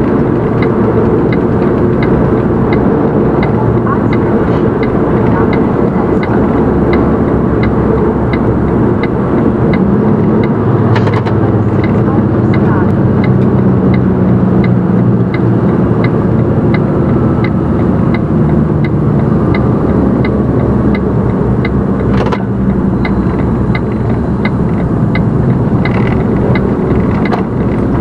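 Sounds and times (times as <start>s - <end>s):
diesel engine running: 0.0s - 28.0s
turn signal ticking: 0.0s - 28.0s.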